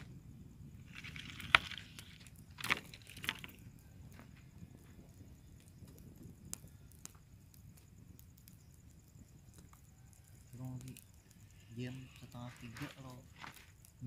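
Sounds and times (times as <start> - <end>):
faint fire crackles: 0.0 - 14.0.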